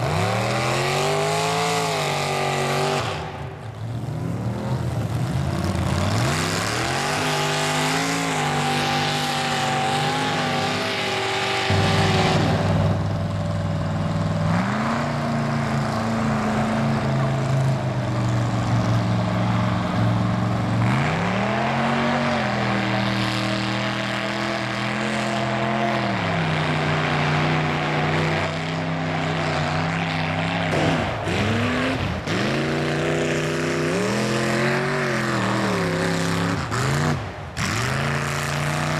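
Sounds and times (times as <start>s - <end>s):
truck engine revving hard: 0.0s - 38.9s.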